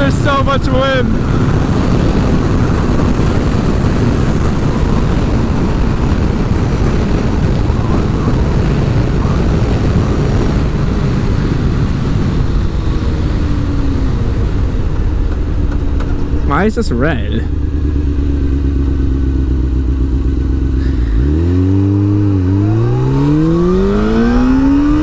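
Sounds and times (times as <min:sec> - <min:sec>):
motorcycle engine running: 0:00.0 - 0:25.0
wind noise on microphone: 0:00.0 - 0:25.0.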